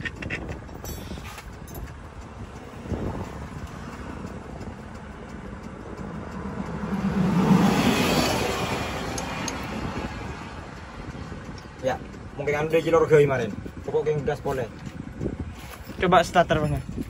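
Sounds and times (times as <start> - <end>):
diesel engine revving: 0.0 - 15.5.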